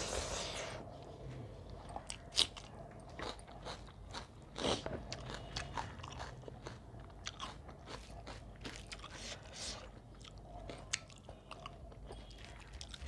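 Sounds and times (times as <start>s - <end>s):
person chewing crunchy food: 1.6s - 13.0s.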